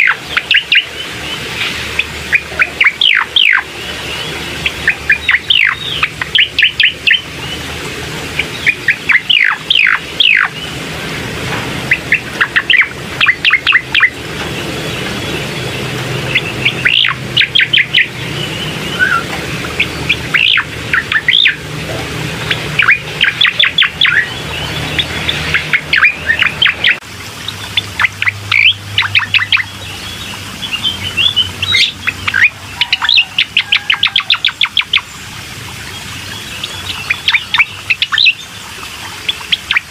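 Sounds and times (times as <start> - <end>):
songbird chirping: 0.0 - 11.1, 11.8 - 39.9.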